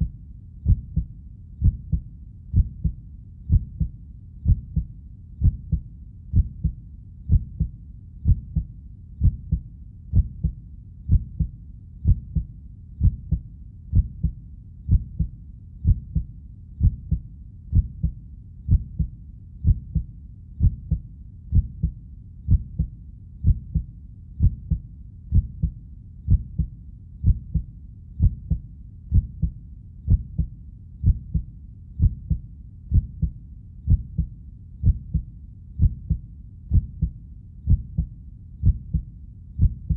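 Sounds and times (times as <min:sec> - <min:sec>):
faint low rumble: 0:00.0 - 0:39.9
heartbeat thumps: 0:00.0 - 0:39.9.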